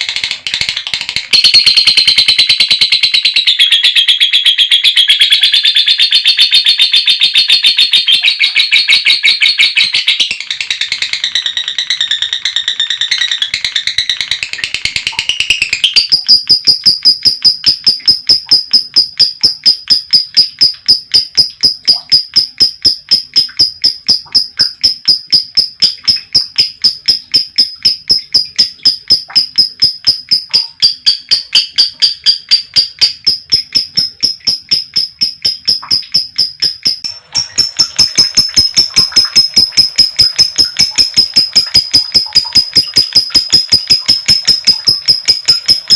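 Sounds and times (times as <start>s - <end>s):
lovebird chirping: 1.3s - 45.9s.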